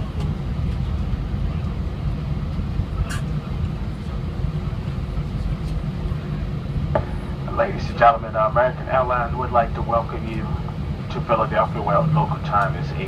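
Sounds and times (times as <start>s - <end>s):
jet engines: 0.0s - 13.0s.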